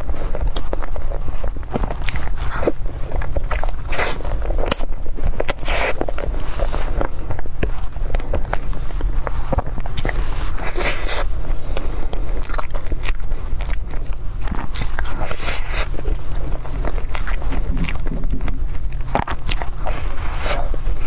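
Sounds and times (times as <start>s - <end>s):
chewing pastry: 0.0s - 21.0s
crust crunching: 0.0s - 21.0s
steady low hum: 0.0s - 21.0s.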